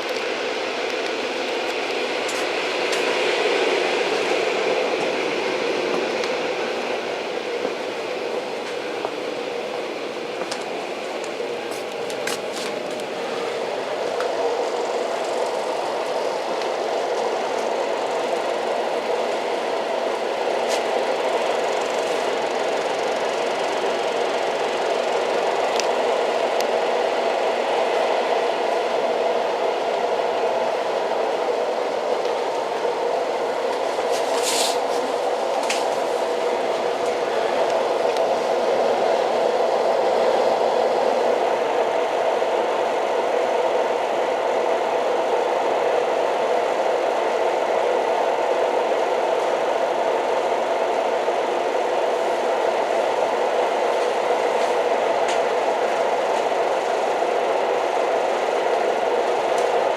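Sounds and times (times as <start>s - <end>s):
train rattling: 0.0s - 59.9s.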